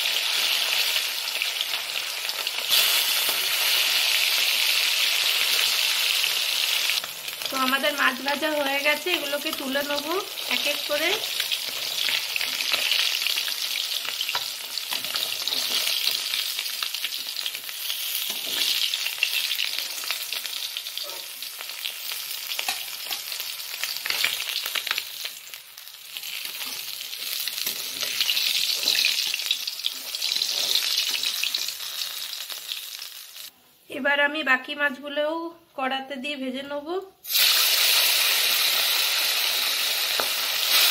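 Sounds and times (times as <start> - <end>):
fish sizzling in hot oil: 0.0 - 33.5, 37.2 - 40.9.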